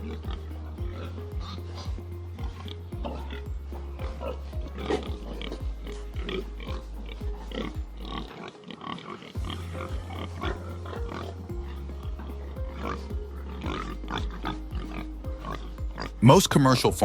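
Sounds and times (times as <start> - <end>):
pigs vocalizing: 0.0 - 16.3
background music with steady beat: 0.0 - 17.0.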